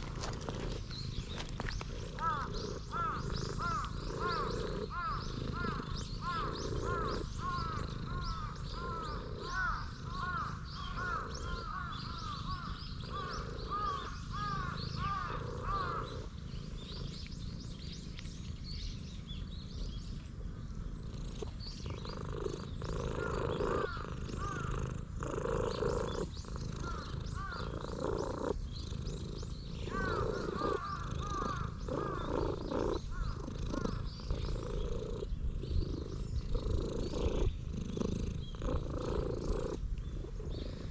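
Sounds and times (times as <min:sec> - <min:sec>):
cat purring loudly: 0:00.0 - 0:40.9.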